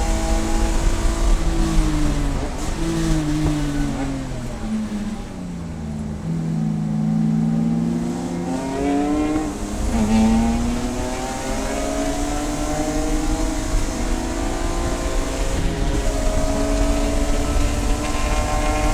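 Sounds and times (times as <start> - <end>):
race car engine accelerating: 0.0 - 18.9.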